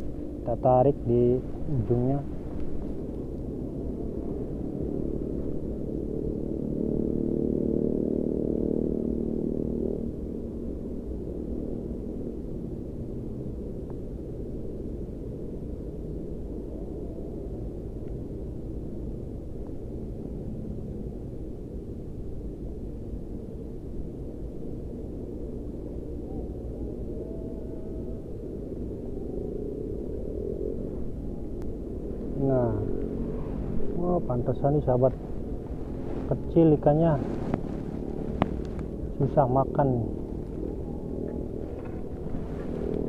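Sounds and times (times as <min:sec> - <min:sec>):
low rumble: 0:00.0 - 0:43.0
steady-pitched hum: 0:00.0 - 0:43.0.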